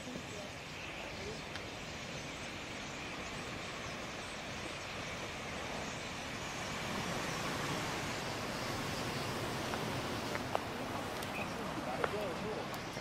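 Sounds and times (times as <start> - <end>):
flock of birds chattering: 0.0 - 13.0
low rumble of traffic: 0.0 - 13.0.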